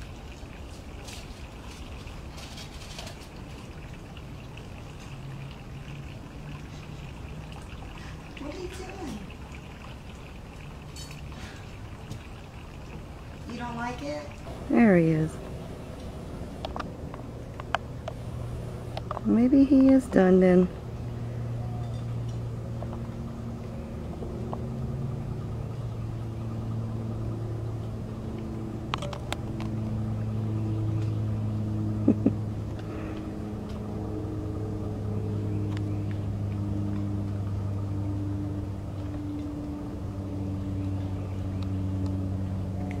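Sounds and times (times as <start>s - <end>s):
low engine hum: 0.0s - 43.0s.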